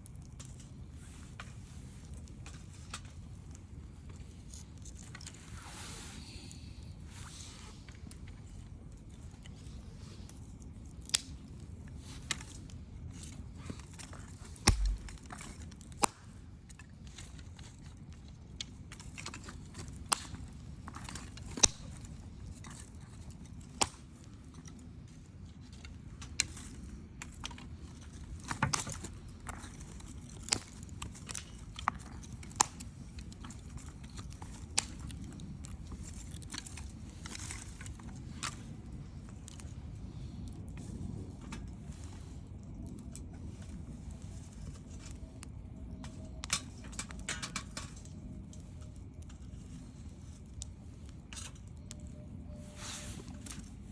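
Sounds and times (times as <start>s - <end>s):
campfire crackling and popping: 0.0s - 53.9s
low rush of flames: 0.0s - 53.9s.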